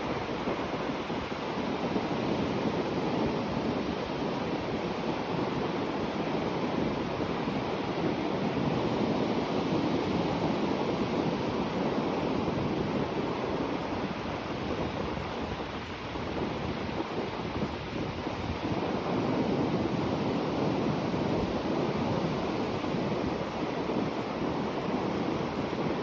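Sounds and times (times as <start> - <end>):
sea waves breaking gently: 0.0 - 26.0.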